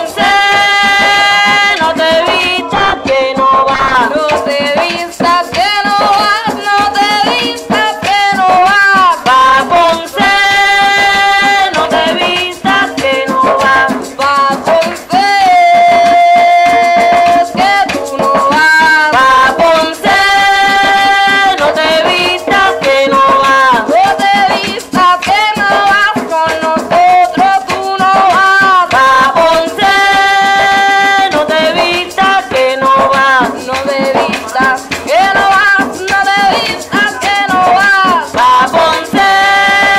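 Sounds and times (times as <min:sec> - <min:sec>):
barrel drums: 0:00.0 - 0:39.9
maraca rattling: 0:00.0 - 0:39.9
person singing: 0:00.0 - 0:39.9.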